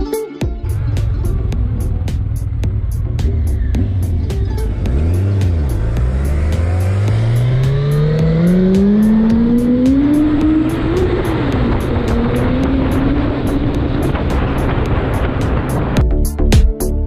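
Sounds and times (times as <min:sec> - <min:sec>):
music with ticking beat: 0:00.0 - 0:17.0
motorcycle engine accelerating: 0:00.6 - 0:16.0
rushing wind: 0:00.7 - 0:16.0.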